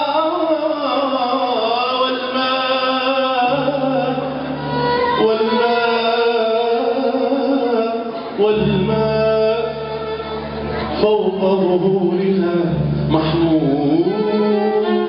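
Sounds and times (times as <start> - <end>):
instrumental backing music: 0.0 - 15.0
man singing into microphone: 0.0 - 15.0.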